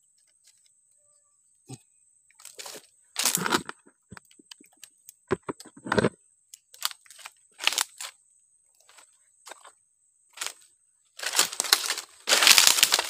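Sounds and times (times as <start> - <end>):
twigs and leaves crunching underfoot: 2.3 - 13.0.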